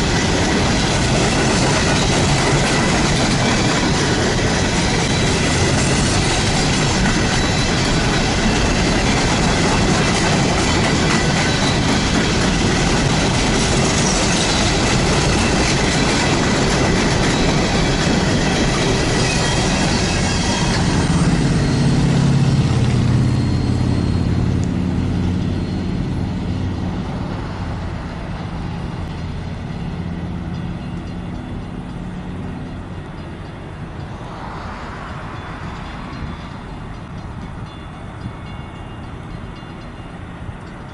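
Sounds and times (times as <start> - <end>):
train wheels rolling on rails: 0.0 - 40.9.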